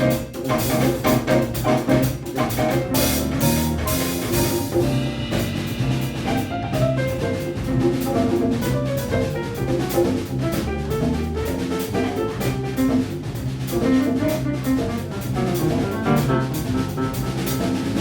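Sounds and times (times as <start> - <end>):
drum kit: 0.0 - 18.0
electric bass line: 0.0 - 18.0
piano chords: 0.0 - 18.0.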